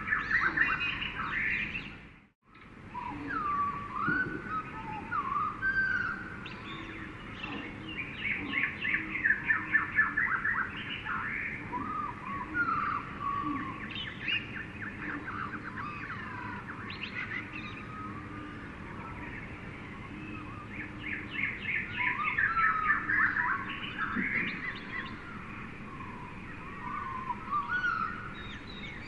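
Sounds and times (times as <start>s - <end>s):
birds calling and chirping: 0.0s - 29.0s
steady background hum: 0.0s - 29.0s.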